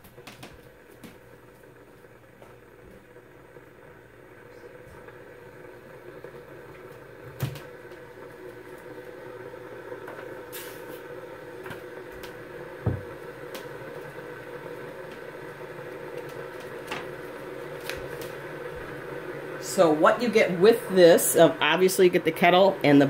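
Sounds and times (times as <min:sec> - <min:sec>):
electric kettle hum and hiss: 0:00.0 - 0:23.0.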